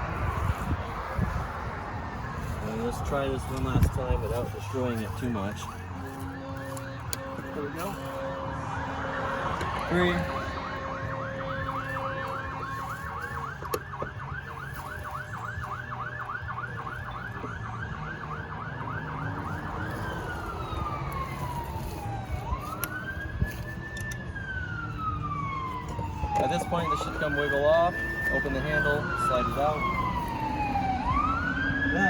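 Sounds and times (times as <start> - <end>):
emergency vehicle siren: 0.0 - 32.0.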